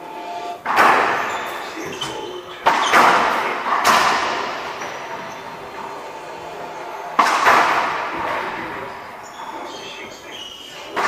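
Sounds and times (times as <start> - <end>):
racquetball cracks echoing: 0.6 - 11.0.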